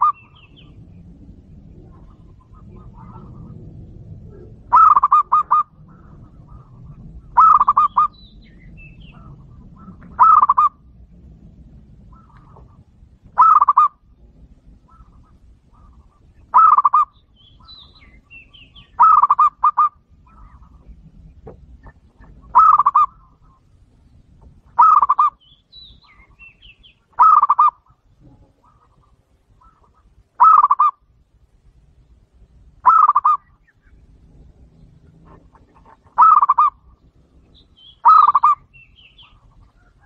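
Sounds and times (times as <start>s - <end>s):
dove cooing: 0.0s - 11.0s, 12.0s - 23.8s, 24.7s - 31.0s, 32.8s - 33.7s, 34.4s - 40.0s.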